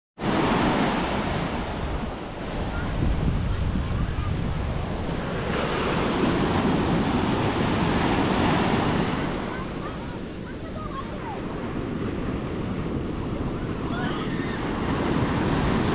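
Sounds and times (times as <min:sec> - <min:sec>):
surf washing up sand: 0:00.2 - 0:15.9
wind buffeting microphone: 0:00.2 - 0:15.9.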